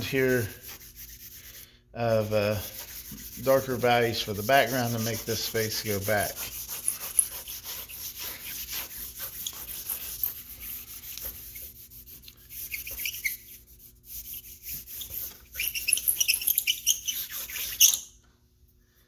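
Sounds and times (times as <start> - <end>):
charcoal scratching on paper: 0.0 - 18.0.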